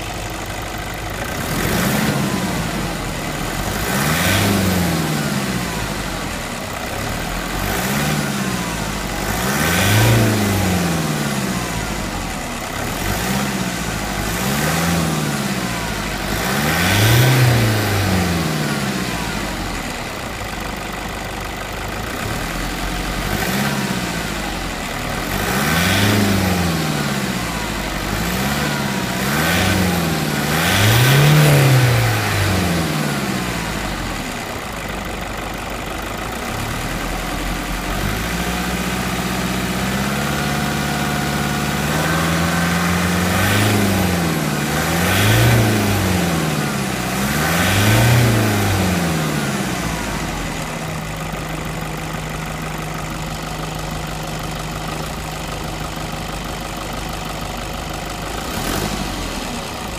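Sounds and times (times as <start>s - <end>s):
diesel engine revving and idling: 0.0s - 59.9s.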